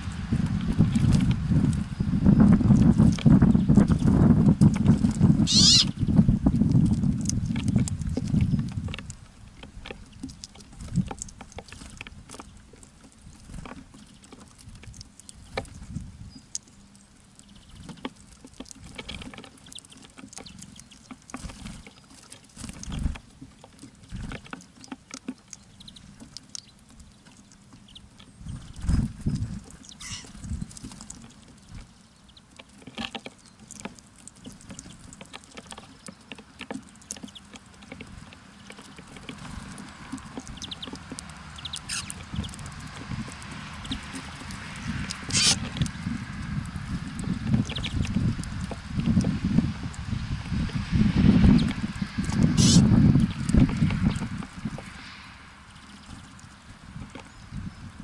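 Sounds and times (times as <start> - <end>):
birds pecking and hopping taps: 0.0 - 58.0.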